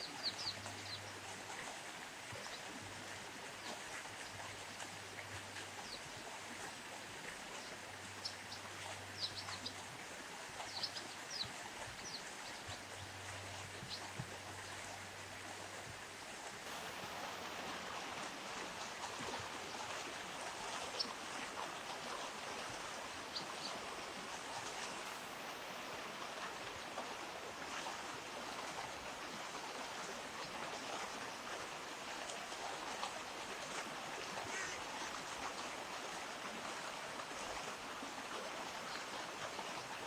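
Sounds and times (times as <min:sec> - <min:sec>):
river water over stones: 0:00.0 - 0:40.0.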